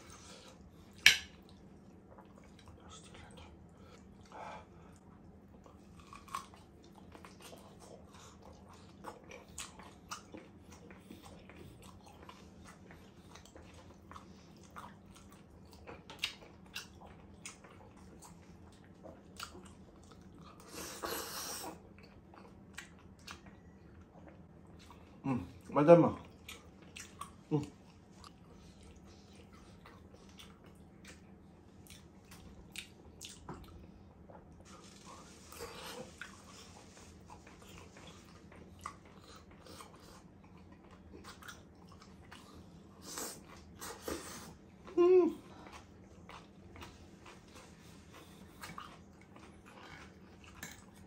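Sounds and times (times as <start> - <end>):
chewing with wet mouth clicks: 0.0 - 20.8, 21.6 - 44.8, 45.5 - 51.0.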